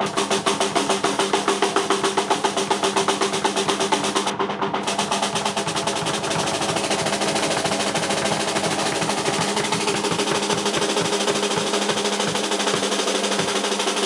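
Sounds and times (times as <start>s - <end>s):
drum kit solo: 0.0s - 14.0s.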